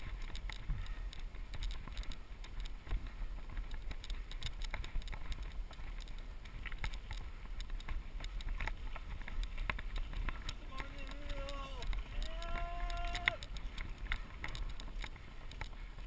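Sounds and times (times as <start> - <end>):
bike tyres rumbling on trail: 0.0 - 16.0
clicks and ticks of rattling bike: 0.0 - 16.0.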